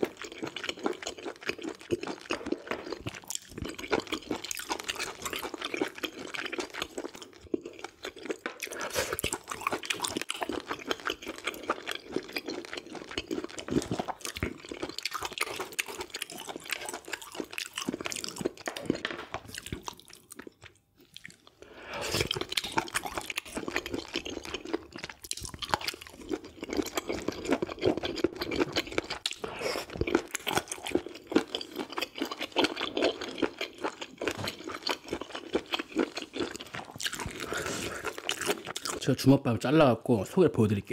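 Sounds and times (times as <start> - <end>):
wet chewing and crunching: 0.0 - 39.2.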